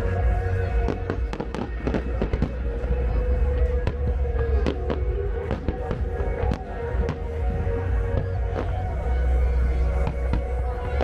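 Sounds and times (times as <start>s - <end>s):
fireworks bangs and crackles: 0.0s - 11.0s
music through loudspeakers: 0.0s - 11.0s.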